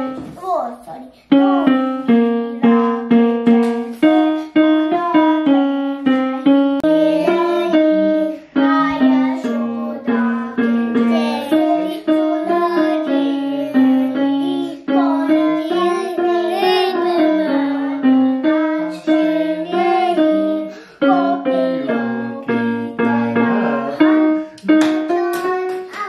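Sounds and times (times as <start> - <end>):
child singing: 1.3 - 26.0
electronic keyboard melody: 1.3 - 26.0.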